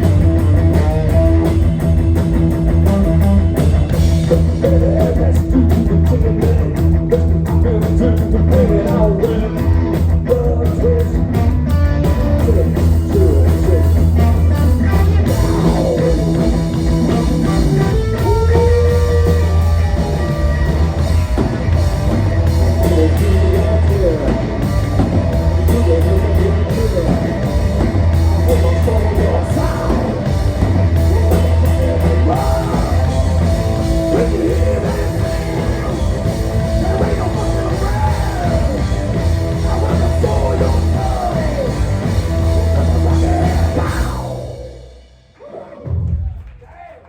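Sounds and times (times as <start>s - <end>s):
electric guitar bending notes: 0.0s - 45.1s
drum kit: 0.0s - 46.6s
heavy bass: 0.0s - 46.7s.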